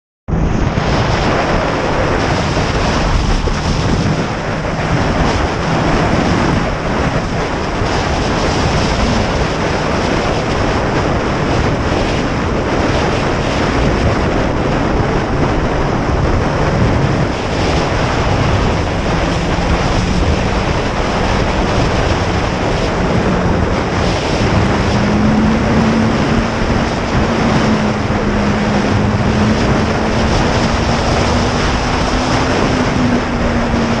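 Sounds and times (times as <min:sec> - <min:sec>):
wind roar on microphone: 0:00.3 - 0:34.0
faint vehicle hum: 0:00.4 - 0:34.0.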